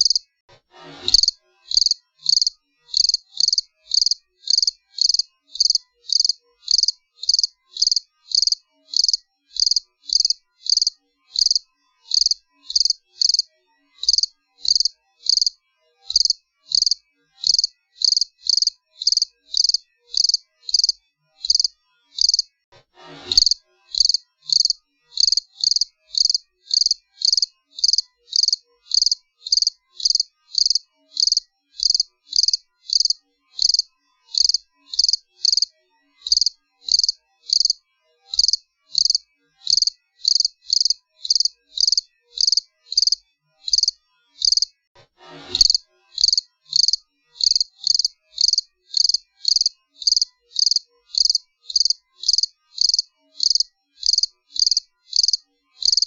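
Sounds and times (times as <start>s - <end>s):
cricket chirping: 0.0s - 0.2s, 1.2s - 22.5s, 23.4s - 44.7s, 45.6s - 56.0s.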